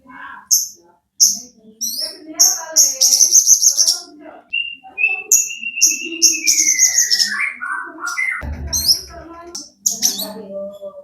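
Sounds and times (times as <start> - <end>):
shrike singing: 0.3 - 10.6.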